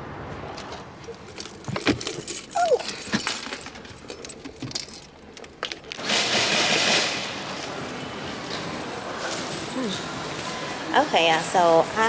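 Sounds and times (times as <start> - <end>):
objects jangling and clinking: 1.0 - 6.0, 6.6 - 12.0.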